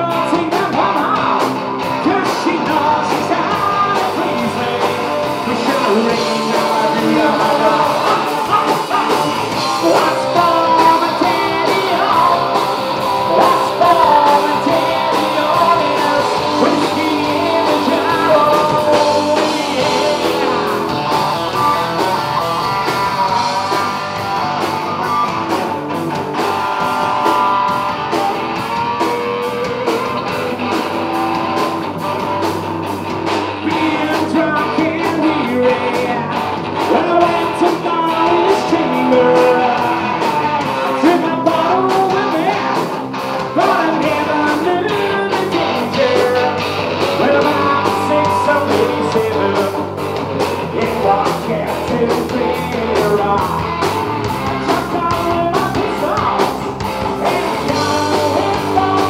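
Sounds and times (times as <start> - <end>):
man singing: 0.0 - 25.6, 33.5 - 59.0
bass guitar: 0.0 - 59.0
distorted electric guitar: 0.0 - 59.0
drum kit: 0.0 - 59.0.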